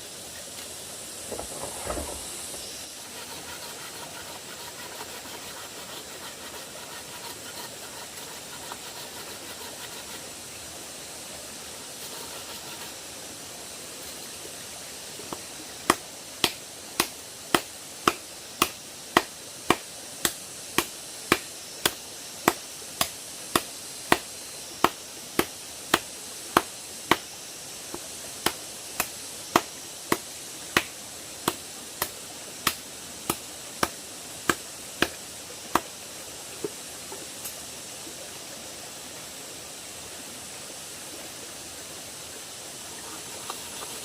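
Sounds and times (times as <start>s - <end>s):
steady hiss: 0.0s - 44.0s.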